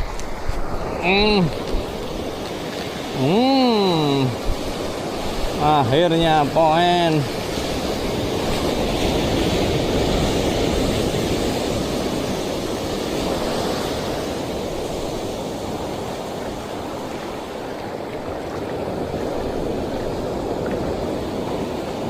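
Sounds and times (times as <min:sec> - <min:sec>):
surf washing onto beach: 0:00.0 - 0:22.0.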